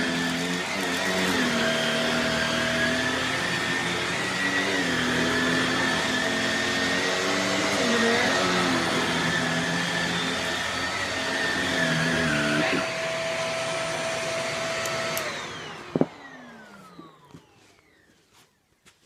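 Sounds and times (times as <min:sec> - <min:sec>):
vacuum cleaner motor whine: 0:00.0 - 0:18.5.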